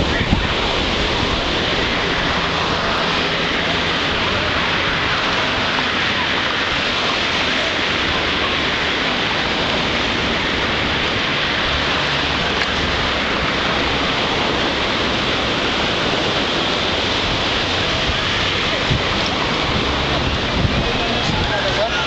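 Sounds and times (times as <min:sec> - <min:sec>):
surf breaking on beach: 0:00.0 - 0:22.0.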